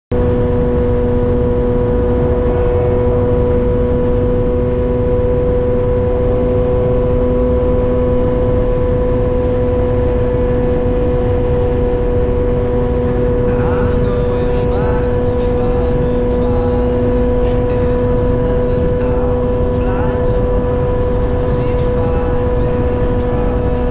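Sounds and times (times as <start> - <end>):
motorcycle engine running steadily: 0.2 - 23.9.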